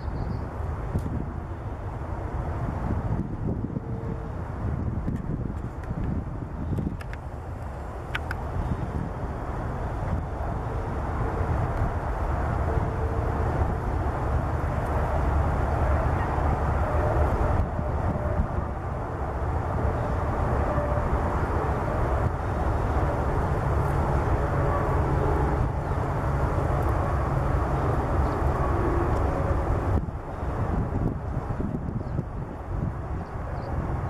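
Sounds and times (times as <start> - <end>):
distant highway traffic: 0.0 - 34.0
jet aircraft: 0.0 - 34.0.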